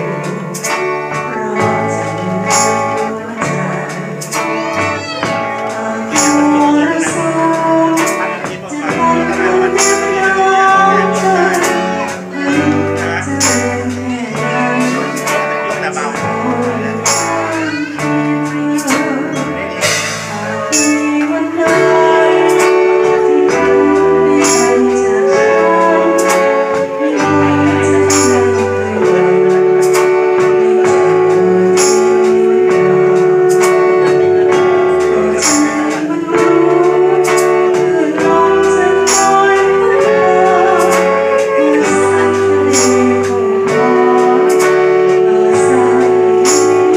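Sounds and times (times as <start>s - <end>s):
alto saxophone melody: 0.0s - 46.9s
bass notes: 0.0s - 46.9s
drums with cymbal strikes: 0.0s - 46.9s.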